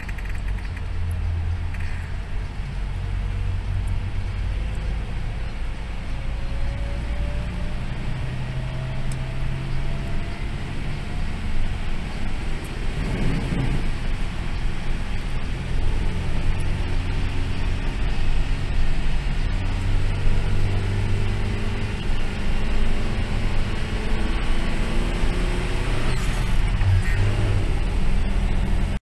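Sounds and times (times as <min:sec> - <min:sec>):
vehicle engine drone: 0:00.0 - 0:29.0
tyres hissing on wet road: 0:01.4 - 0:29.0.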